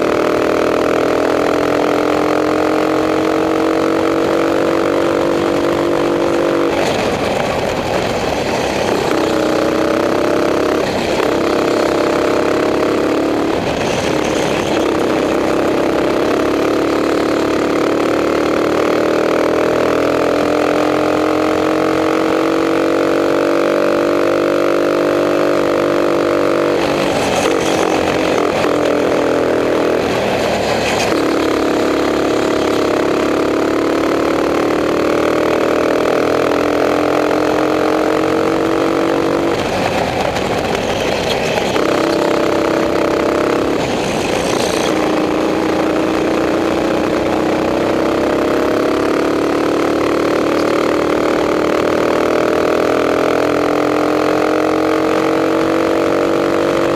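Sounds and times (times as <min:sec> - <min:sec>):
kart engine at speed: 0:00.0 - 0:56.9.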